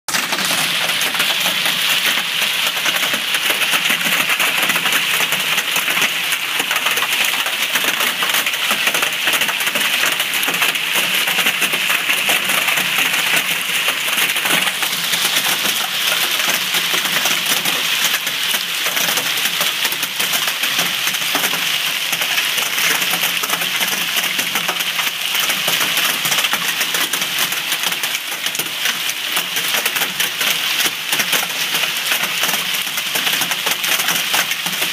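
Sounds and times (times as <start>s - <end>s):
hail and rain on asphalt: 0.1s - 34.9s.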